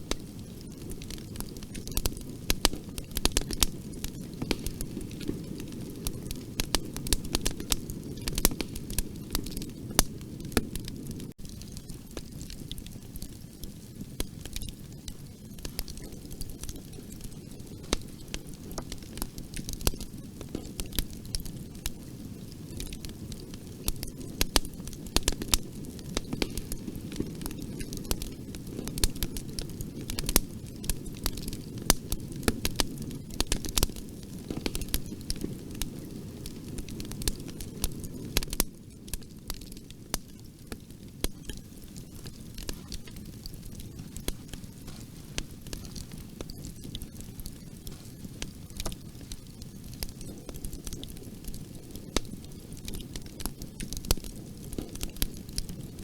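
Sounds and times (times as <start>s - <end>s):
bonfire wood crackling and popping: 0.0s - 56.0s
low rumble of flame: 0.0s - 56.0s.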